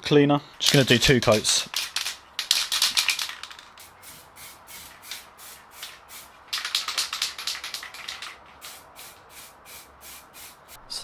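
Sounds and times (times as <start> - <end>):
aerosol can spraying: 1.8 - 10.8.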